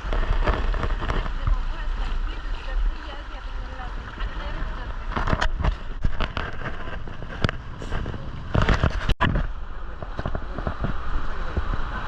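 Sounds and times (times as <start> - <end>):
white water rushing and splashing: 0.0 - 12.0
wind buffeting microphone: 0.0 - 12.0.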